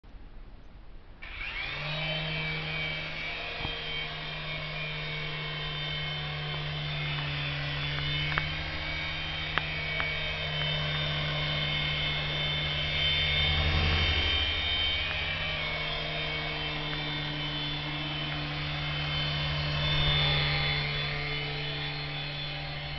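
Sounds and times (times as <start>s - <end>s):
rotor hum: 1.0s - 22.9s
toy helicopter motor whine: 1.2s - 22.9s.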